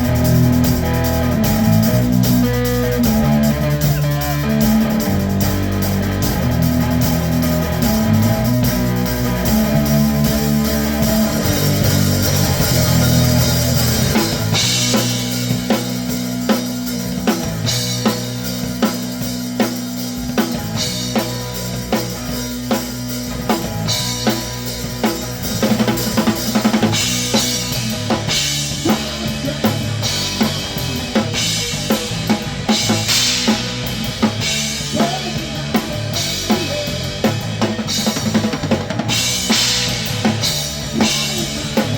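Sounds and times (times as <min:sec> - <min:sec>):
heavy guitar and bass chords: 0:00.0 - 0:41.9
rock band playing: 0:00.0 - 0:41.9.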